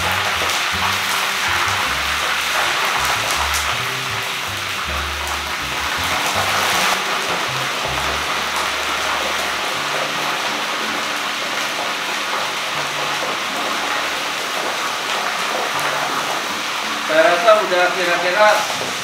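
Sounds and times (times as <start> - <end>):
crab deep-frying in hot oil: 0.0 - 19.0.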